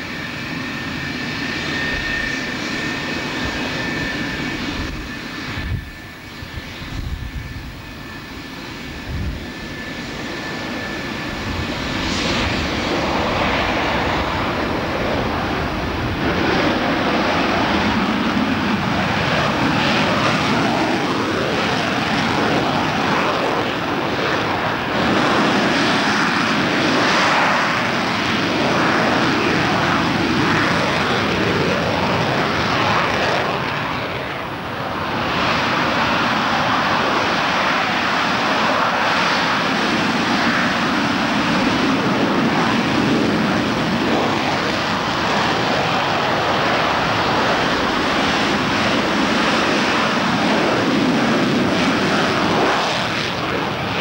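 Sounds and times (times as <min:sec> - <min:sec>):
jet engines with afterburner: 0:00.0 - 0:54.0.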